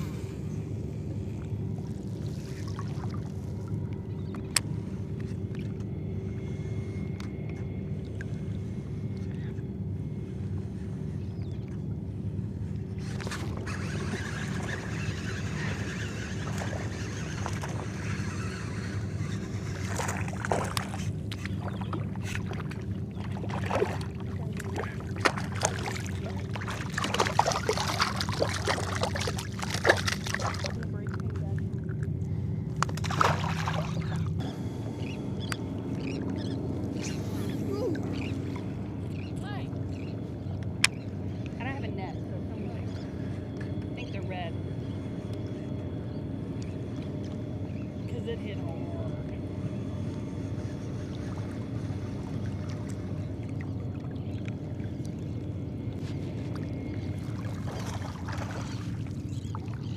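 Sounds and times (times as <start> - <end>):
boat motor running: 0.0 - 59.9
water splashing against hull: 1.2 - 6.6, 10.3 - 42.0, 46.5 - 59.9.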